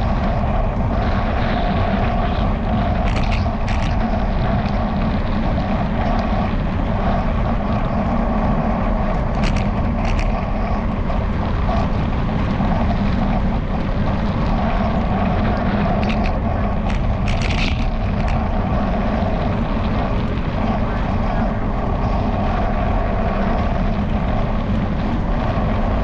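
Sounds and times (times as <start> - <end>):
wind and riding noise: 0.0 - 26.0.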